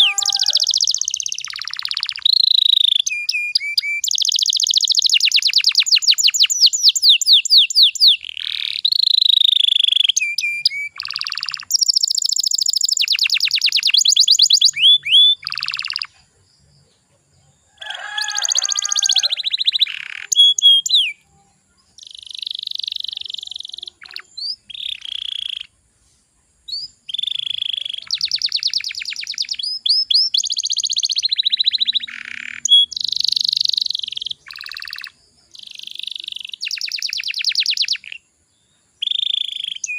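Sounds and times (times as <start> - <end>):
canary singing trills: 0.0 - 25.9, 26.6 - 39.9.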